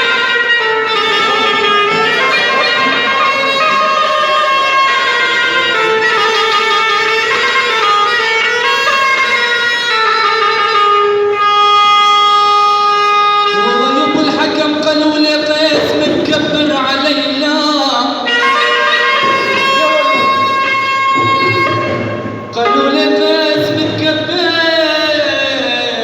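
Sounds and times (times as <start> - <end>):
bowed fiddle solo melody: 0.0 - 14.9, 18.2 - 25.7.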